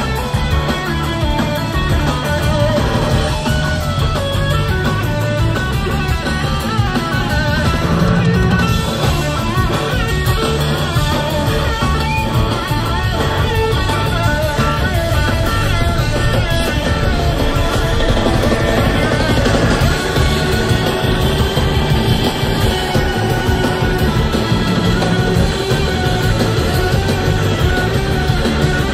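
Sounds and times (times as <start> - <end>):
blues rock band playing: 0.0 - 28.9
electric slide guitar: 0.0 - 28.9.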